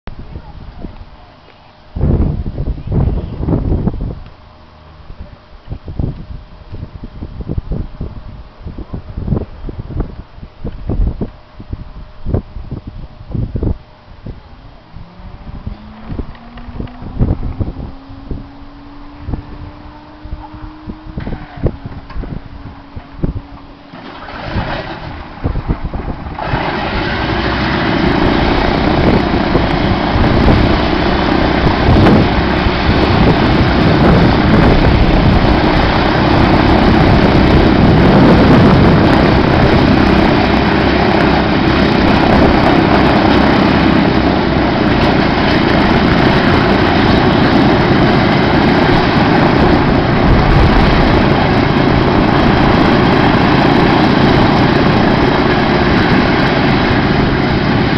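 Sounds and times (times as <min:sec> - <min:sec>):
radial aircraft engine starting: 0:09.6 - 0:57.9.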